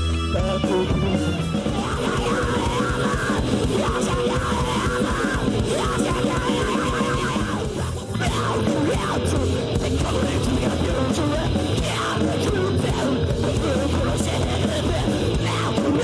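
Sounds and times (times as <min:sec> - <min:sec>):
heavy rock band playing: 0:00.0 - 0:16.0.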